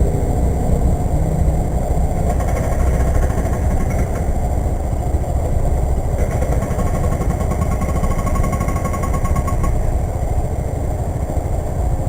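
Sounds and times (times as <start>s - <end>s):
motorcycle engine running: 0.0s - 12.0s
steady whine: 0.0s - 12.0s.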